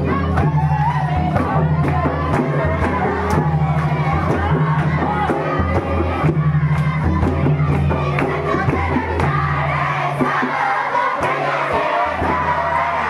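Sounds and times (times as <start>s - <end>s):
crowd singing and chanting: 0.0s - 13.0s
drum beat: 0.0s - 13.0s.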